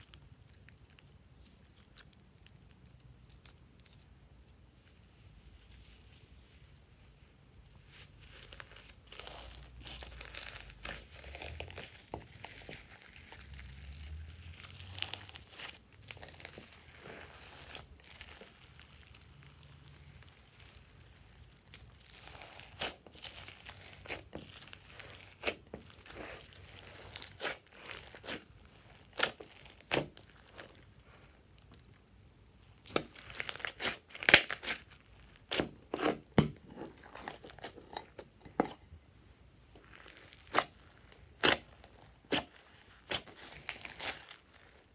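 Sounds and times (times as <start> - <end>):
slime crackling and popping: 0.0 - 4.3, 8.2 - 36.2, 39.8 - 44.9.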